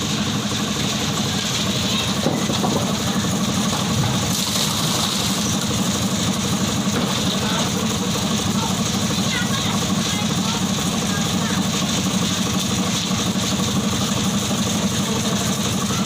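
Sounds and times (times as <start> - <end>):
machinery engine running: 0.0 - 16.0.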